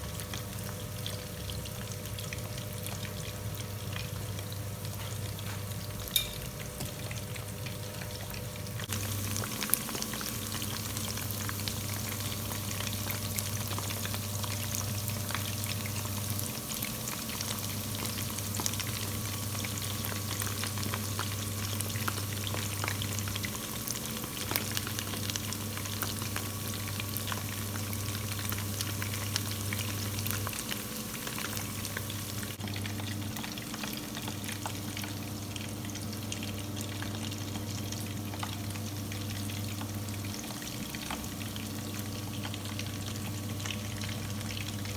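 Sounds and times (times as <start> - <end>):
food sizzling in hot oil: 0.0 - 44.9.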